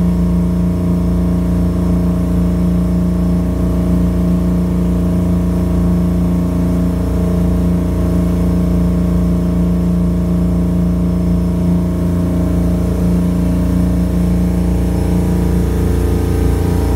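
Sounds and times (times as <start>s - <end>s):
boat engine droning: 0.0s - 16.9s.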